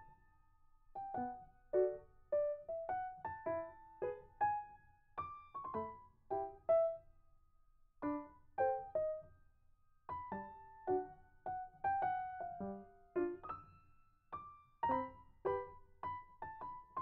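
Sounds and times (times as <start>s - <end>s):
slow gentle piano melody: 0.0s - 7.1s, 8.0s - 17.0s.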